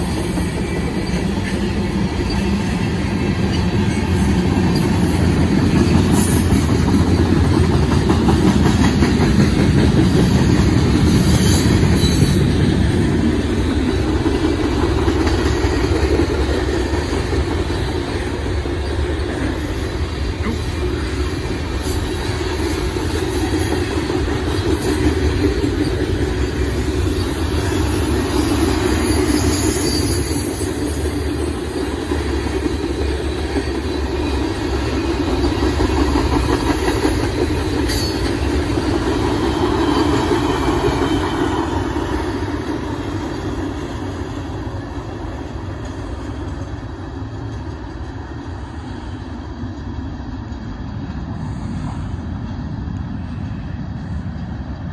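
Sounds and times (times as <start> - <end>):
steel wheels rumbling on rail: 0.0 - 54.9.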